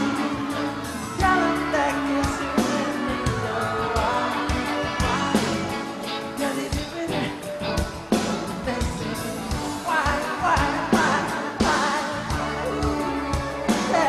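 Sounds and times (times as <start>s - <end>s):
live pop band: 0.0s - 14.0s
person singing: 0.0s - 14.0s.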